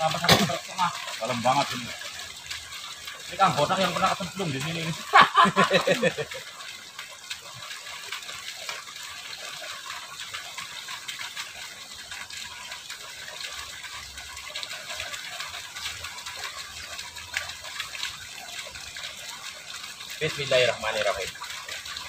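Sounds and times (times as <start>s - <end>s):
fast-flowing water rushing: 0.0s - 22.0s.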